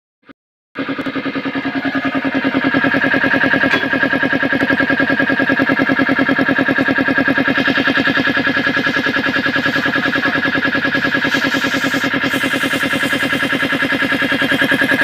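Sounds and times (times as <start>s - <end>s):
air compressor pumping: 0.8s - 15.0s.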